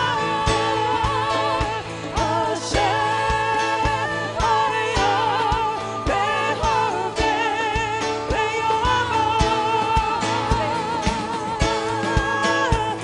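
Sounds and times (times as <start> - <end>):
drums keeping steady beat: 0.0 - 13.0
guitars: 0.0 - 13.0
person singing: 0.0 - 13.0.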